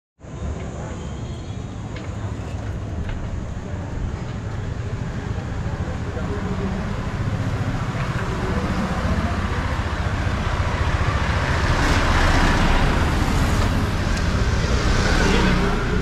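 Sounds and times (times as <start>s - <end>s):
vehicles passing close by: 0.2s - 16.0s.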